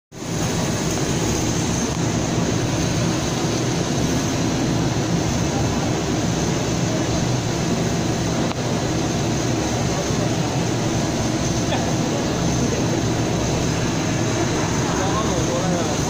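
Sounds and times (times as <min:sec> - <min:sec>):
extrusion machine drone: 0:00.1 - 0:16.0
constant high hiss: 0:00.2 - 0:16.0.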